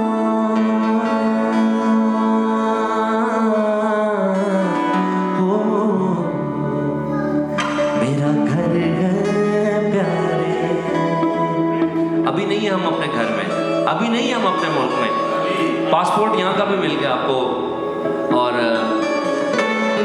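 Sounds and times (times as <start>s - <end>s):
instrumental backing: 0.0s - 20.0s
person singing worship song: 0.0s - 20.0s.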